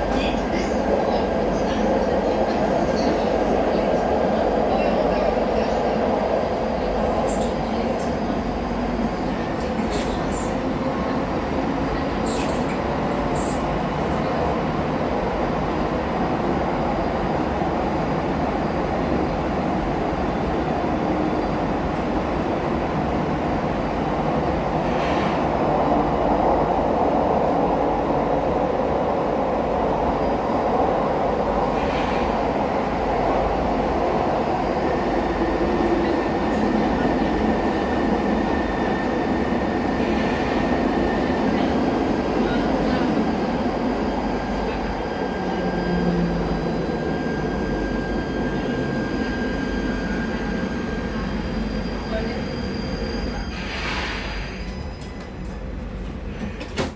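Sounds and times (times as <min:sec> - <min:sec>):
light-rail car rolling: 0:00.0 - 0:56.9.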